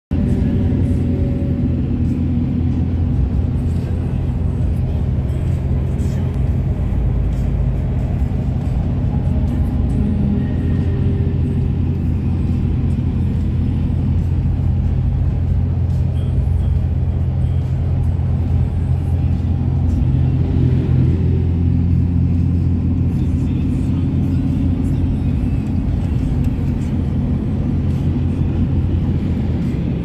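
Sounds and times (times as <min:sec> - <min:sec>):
road and engine rumble: 0:00.0 - 0:30.0.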